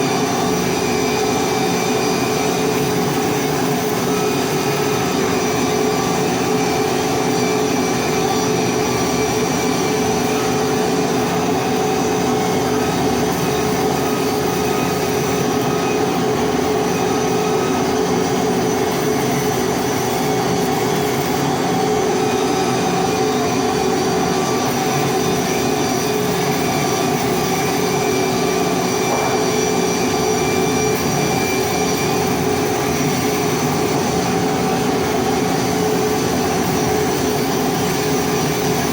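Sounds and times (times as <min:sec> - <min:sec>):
welding equipment drone: 0:00.0 - 0:38.9.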